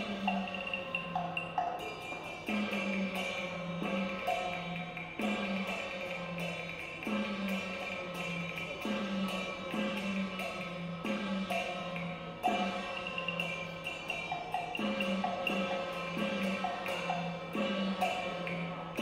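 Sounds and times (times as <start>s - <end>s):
wood block percussion: 0.0s - 19.0s.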